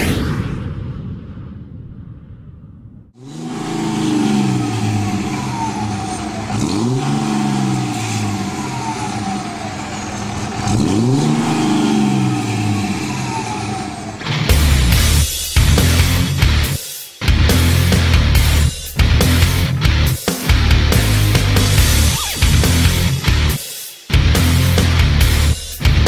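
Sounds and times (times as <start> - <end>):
diesel truck engine accelerating: 3.2 - 16.7, 17.5 - 23.6, 24.2 - 26.0.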